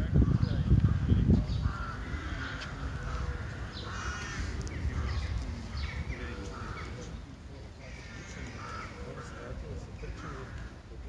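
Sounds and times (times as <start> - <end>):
crows cawing: 0.2 - 7.2, 7.8 - 11.0.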